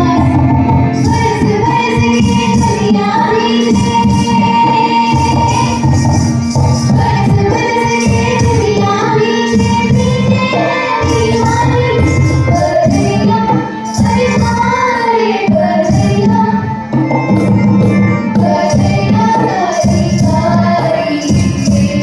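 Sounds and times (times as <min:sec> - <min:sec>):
girls singing folk song: 0:00.0 - 0:17.4, 0:18.3 - 0:22.0
rhythmic instrumental accompaniment: 0:00.0 - 0:22.0.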